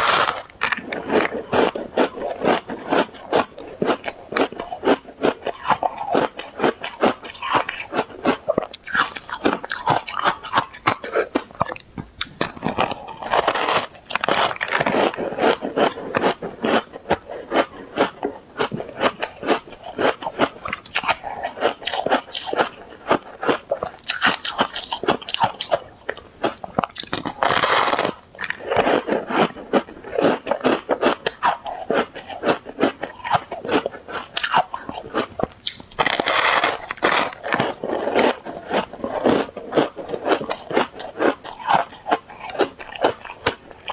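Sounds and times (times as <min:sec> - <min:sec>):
ice crunching between teeth: 0:00.0 - 0:43.9.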